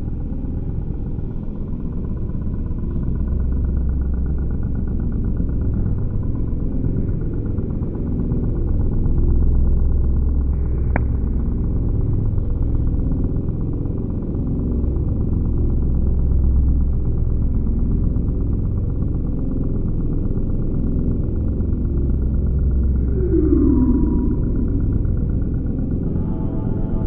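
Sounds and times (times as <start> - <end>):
low droning background music: 0.0 - 27.0.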